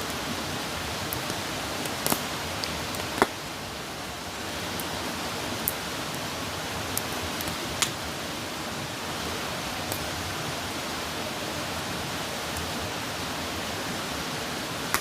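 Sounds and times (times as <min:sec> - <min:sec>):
campfire crackling and hissing: 0:00.0 - 0:15.0.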